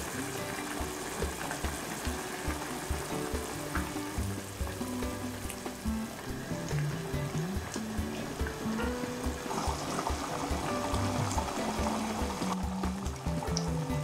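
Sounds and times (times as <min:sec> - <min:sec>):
background music with beat: 0:00.0 - 0:14.0
curry bubbling in a pan: 0:00.0 - 0:14.0.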